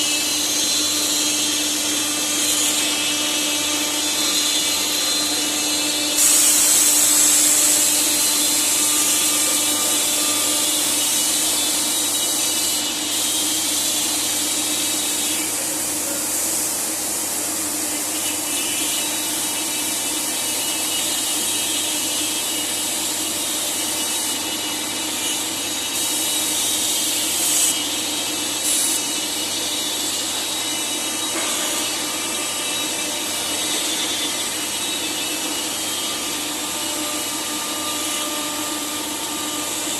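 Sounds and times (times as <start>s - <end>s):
router spindle whine: 0.0s - 39.9s
bit cutting wood hiss: 3.9s - 39.9s.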